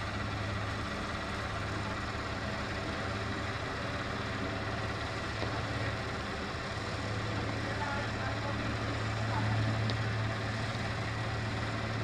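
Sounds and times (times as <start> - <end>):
constant background noise: 0.0 - 12.0
low mechanical hum: 0.0 - 12.0.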